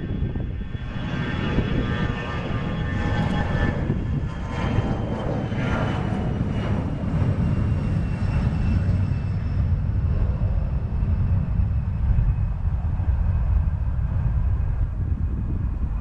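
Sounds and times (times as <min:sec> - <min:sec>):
jet engine rumble: 0:00.0 - 0:16.0
jet engine whine: 0:00.0 - 0:16.0.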